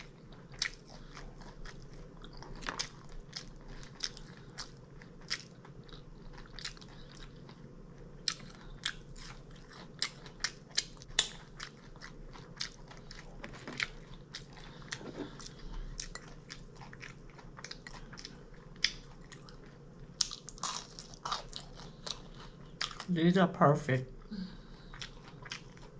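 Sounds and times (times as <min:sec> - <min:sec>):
person chewing crunchy food: 0:00.0 - 0:23.1, 0:24.2 - 0:25.9.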